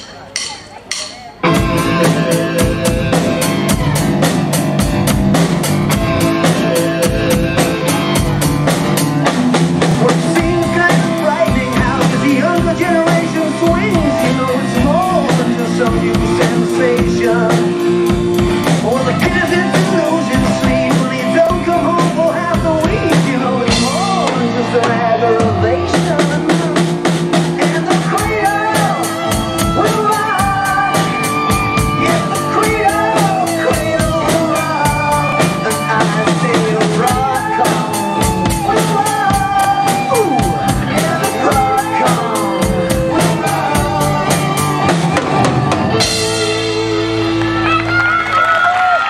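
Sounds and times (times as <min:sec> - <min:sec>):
drum kit playing: 0:00.0 - 0:49.0
rock backing track with singing: 0:00.0 - 0:49.0.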